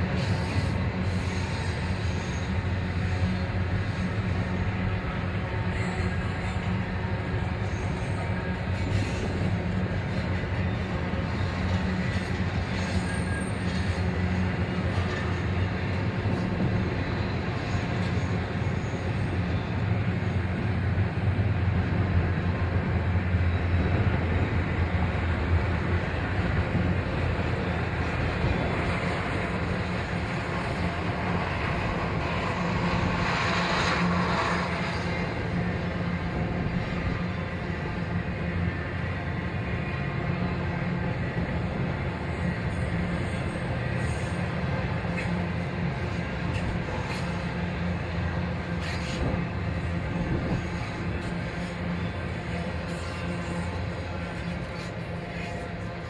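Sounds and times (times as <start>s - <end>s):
train rumbling by: 0.0s - 56.0s.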